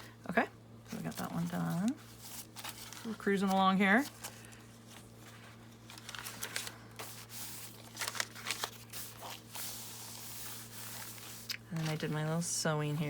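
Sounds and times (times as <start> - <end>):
low electrical hum: 0.0 - 13.0
paper rustling and crinkling: 0.9 - 13.0.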